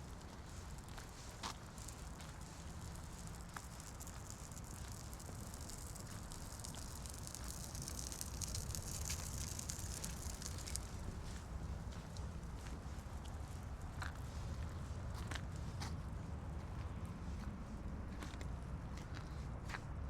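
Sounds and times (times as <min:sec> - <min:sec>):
city rumble and hiss: 0:00.0 - 0:20.0.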